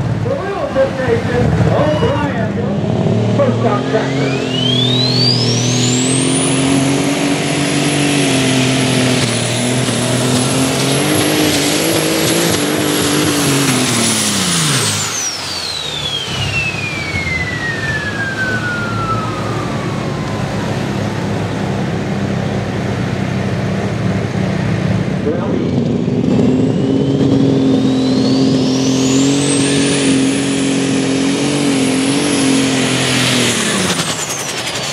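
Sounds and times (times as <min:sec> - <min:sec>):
diesel engine running under load: 0:00.0 - 0:34.9
turbocharger whine: 0:00.0 - 0:34.9.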